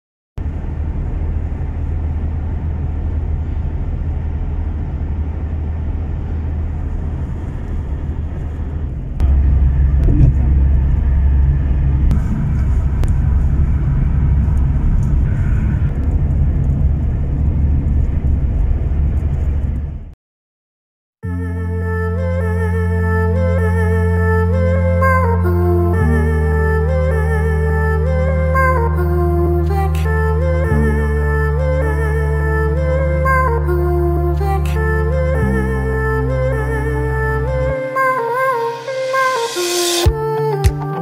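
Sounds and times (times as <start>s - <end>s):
car engine and road rumble: 0.4s - 20.2s, 21.3s - 41.0s.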